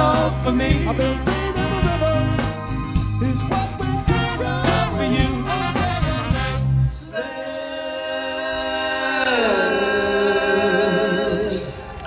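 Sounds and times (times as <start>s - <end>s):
singers holding a vocal chord: 0.0s - 12.0s.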